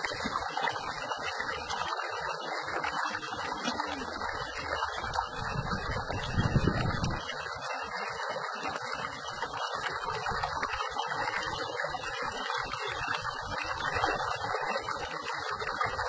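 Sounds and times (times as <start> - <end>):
water gushing from a pipe: 0.0 - 16.0
water splashing: 0.0 - 16.0.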